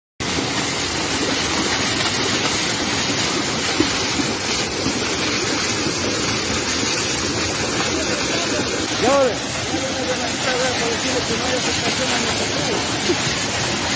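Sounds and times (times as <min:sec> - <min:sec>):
oil gushing from pipeline: 0:00.2 - 0:13.9.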